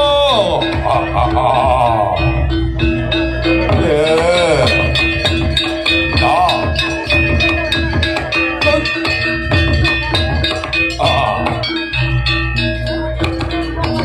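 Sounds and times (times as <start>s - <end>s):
dense drumming: 0.0s - 14.0s
ringing metallophone notes: 0.0s - 14.0s
wavering melody line: 0.0s - 14.0s.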